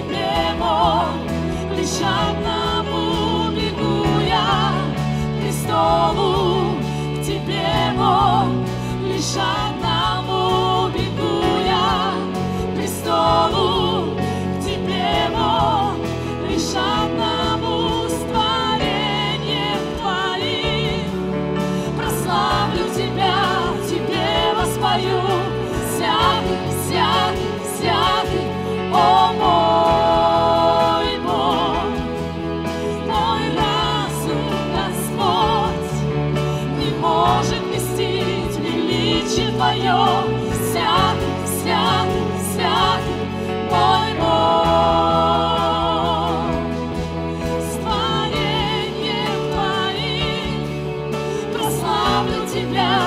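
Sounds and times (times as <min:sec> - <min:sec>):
singers with vibrato: 0:00.0 - 0:53.0
worship band playing: 0:00.0 - 0:53.0.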